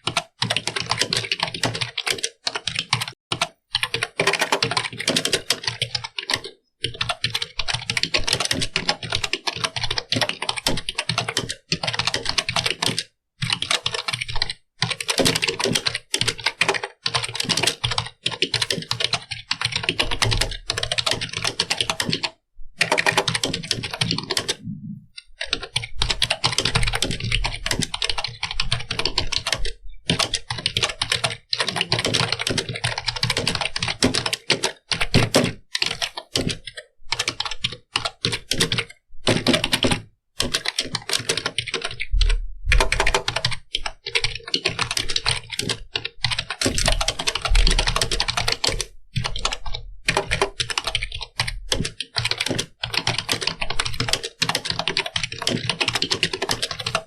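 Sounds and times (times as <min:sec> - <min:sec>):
keyboard typing: 0:00.0 - 0:57.0.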